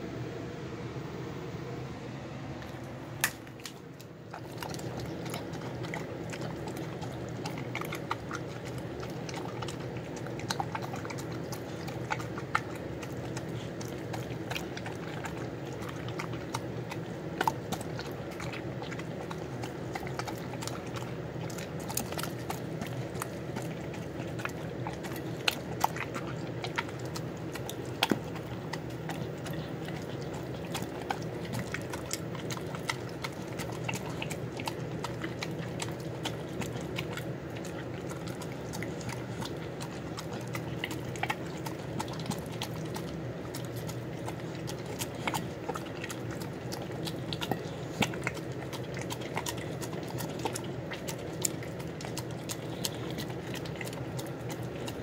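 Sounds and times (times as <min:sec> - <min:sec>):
dog chewing and licking: 0:02.6 - 0:55.0.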